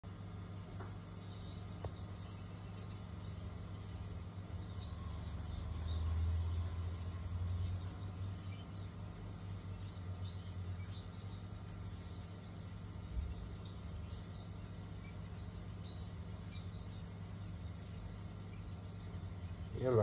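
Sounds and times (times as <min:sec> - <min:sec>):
birds chirping faintly: 0:00.0 - 0:20.0
steady low hum: 0:00.0 - 0:20.0.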